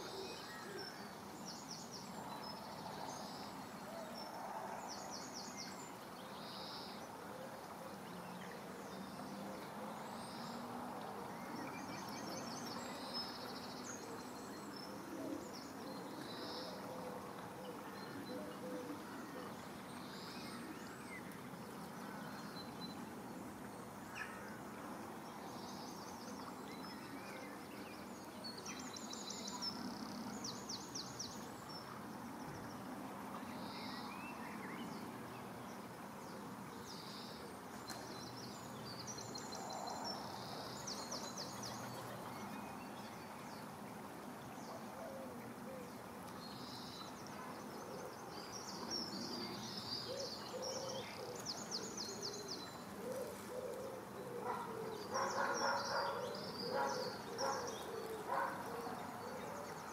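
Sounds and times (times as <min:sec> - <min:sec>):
small birds singing: 0:07.9 - 0:59.9.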